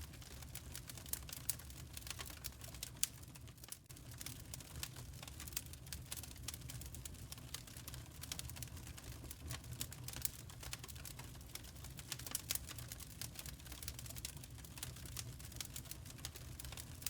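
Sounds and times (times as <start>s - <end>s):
firewood crackling: 0.0s - 17.0s
low rumble of fire: 0.0s - 17.0s.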